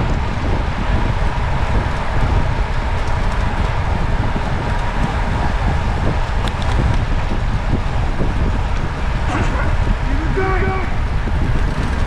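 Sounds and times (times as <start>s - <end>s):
road noise: 0.0s - 12.0s
wind rumbling on microphone: 0.0s - 12.0s.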